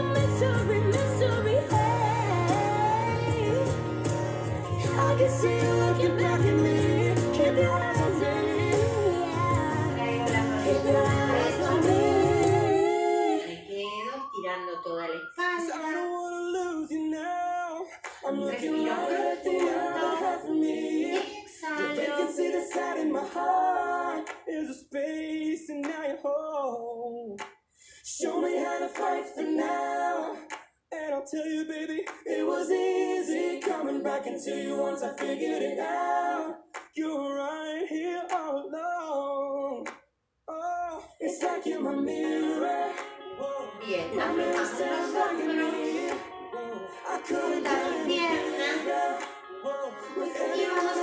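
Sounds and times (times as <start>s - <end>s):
song with sung vocals: 0.0s - 51.0s.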